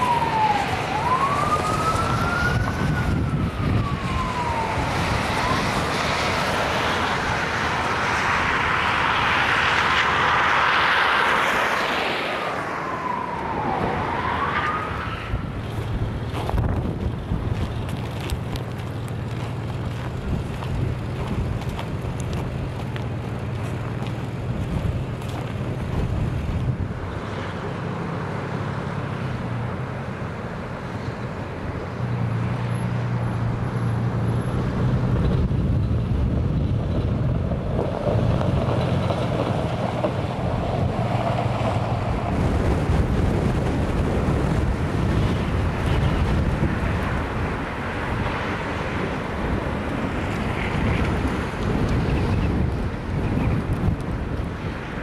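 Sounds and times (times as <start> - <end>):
wind buffeting microphone: 0.0 - 10.0, 12.7 - 27.3, 34.6 - 55.0
vehicle engine humming: 0.0 - 55.0.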